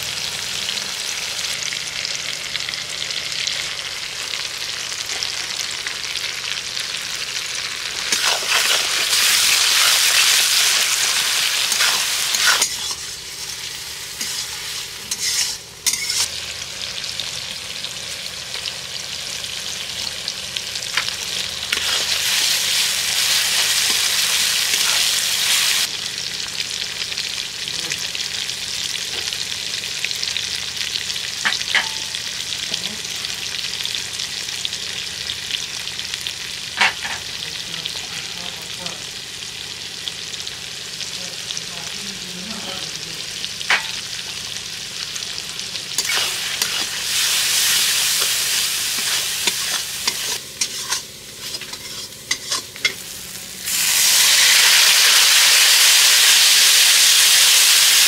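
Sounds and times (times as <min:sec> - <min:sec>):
masala sizzling in hot oil: 0:00.0 - 0:58.0.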